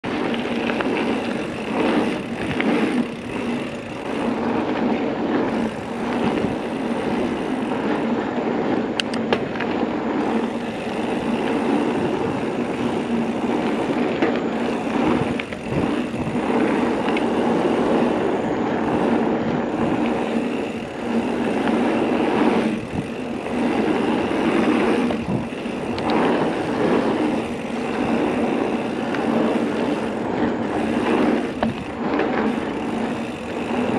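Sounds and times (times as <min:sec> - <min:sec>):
bike tyres rolling on gravel: 0:00.0 - 0:33.9
wind on microphone: 0:00.0 - 0:33.9.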